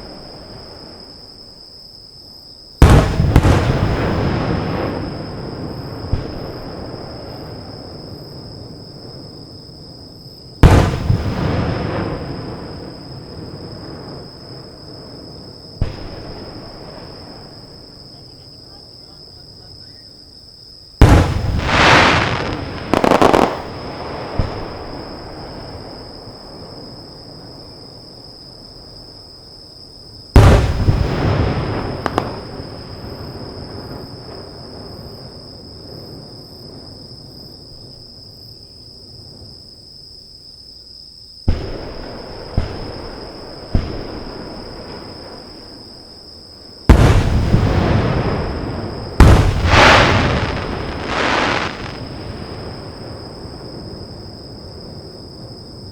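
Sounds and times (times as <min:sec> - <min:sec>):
insect trill: 0:00.0 - 0:55.9
fireworks booming: 0:02.8 - 0:19.4, 0:21.0 - 0:28.1, 0:30.3 - 0:37.4, 0:41.4 - 0:55.9.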